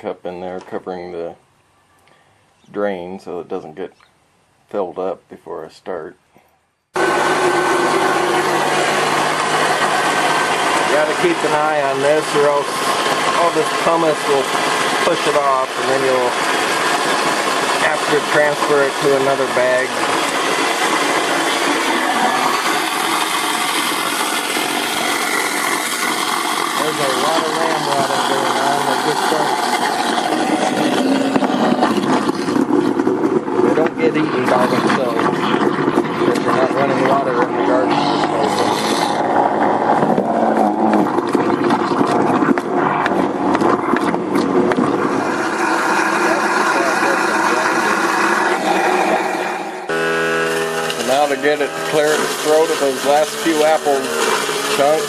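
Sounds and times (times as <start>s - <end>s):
garbage disposal grinding apples: 7.0s - 55.0s.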